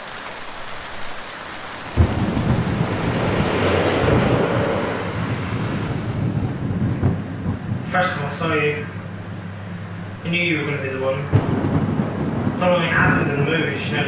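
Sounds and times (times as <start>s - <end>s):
heavy rain: 0.0s - 14.0s
thunder rumbling: 1.8s - 14.0s.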